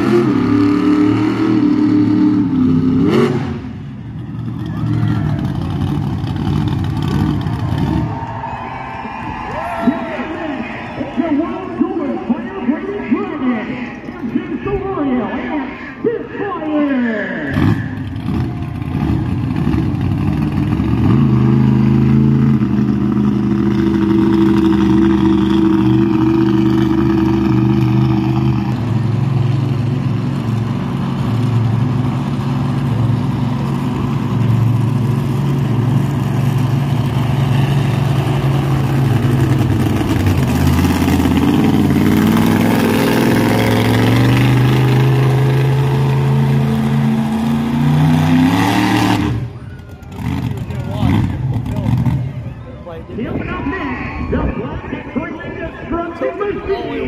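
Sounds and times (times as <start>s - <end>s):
monster truck engines revving: 0.0s - 57.0s.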